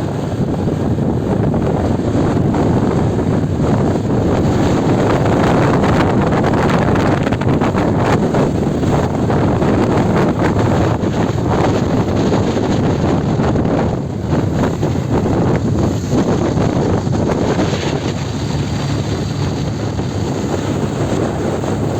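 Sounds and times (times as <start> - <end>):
vehicle and road rumble: 0.0 - 21.9
wind buffeting microphone: 0.0 - 21.9.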